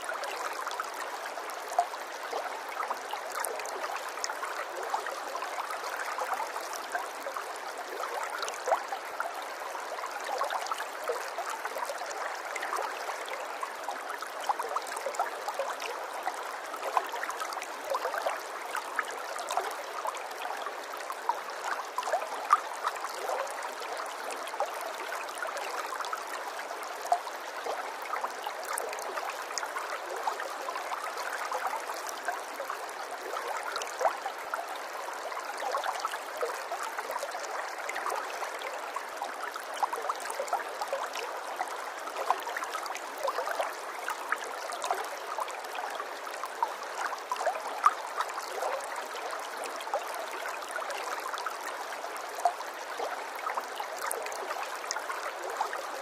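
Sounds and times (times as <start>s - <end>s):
water babbling: 0.0s - 56.0s.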